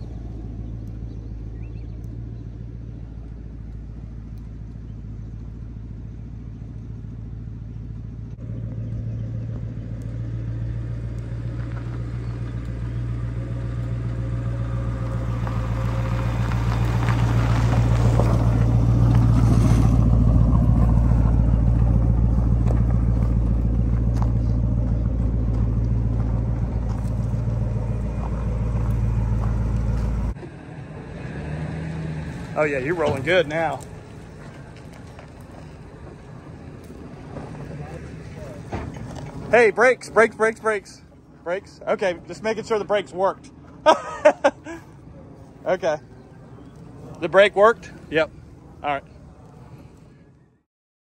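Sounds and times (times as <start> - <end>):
car engine running: 0.0 - 50.2
tyres crunching on gravel: 0.0 - 50.2.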